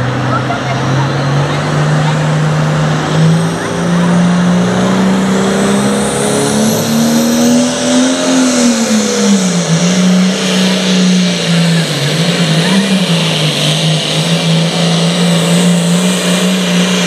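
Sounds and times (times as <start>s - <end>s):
diesel tractor engine revving: 0.0s - 17.0s.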